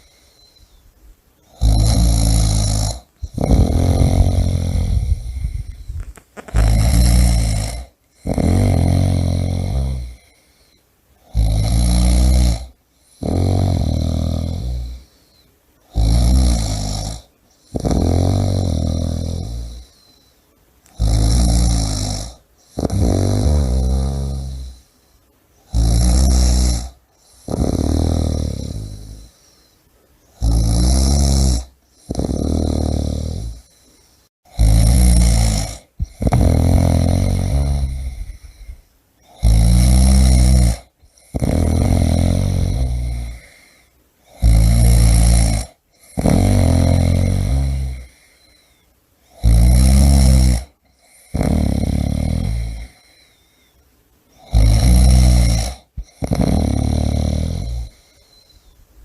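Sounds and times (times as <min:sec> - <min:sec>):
person snoring loudly: 0:01.4 - 0:10.4, 0:11.2 - 0:15.1, 0:15.9 - 0:20.0, 0:20.9 - 0:24.9, 0:25.7 - 0:29.4, 0:30.4 - 0:33.8, 0:34.5 - 0:48.6, 0:49.3 - 0:53.3, 0:54.4 - 0:58.5.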